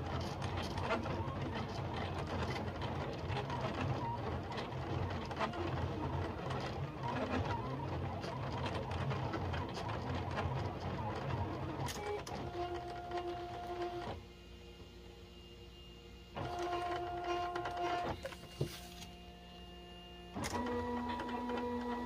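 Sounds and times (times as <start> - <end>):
cutting machine motors whirring: 0.0 - 22.0.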